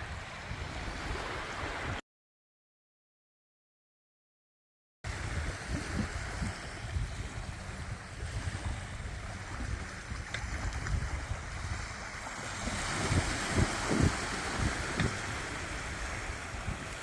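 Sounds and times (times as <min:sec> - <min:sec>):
wind buffeting microphone: 0:00.0 - 0:02.0, 0:05.1 - 0:17.0.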